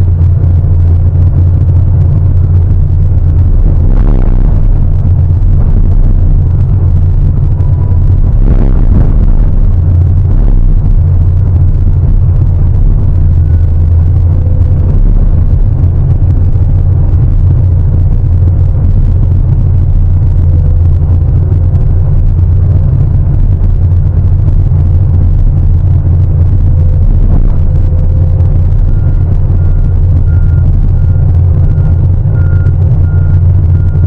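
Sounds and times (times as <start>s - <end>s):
excavator diesel engine droning: 0.0s - 34.0s.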